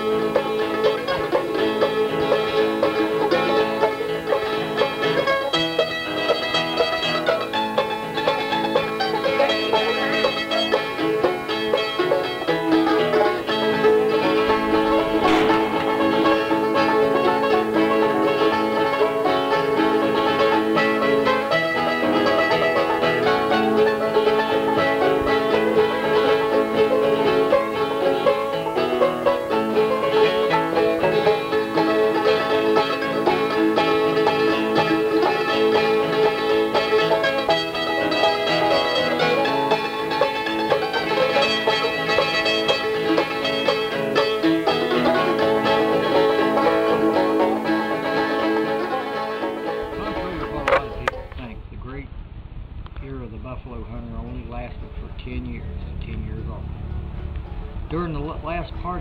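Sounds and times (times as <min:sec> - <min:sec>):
instrumental background music: 0:00.0 - 0:51.3.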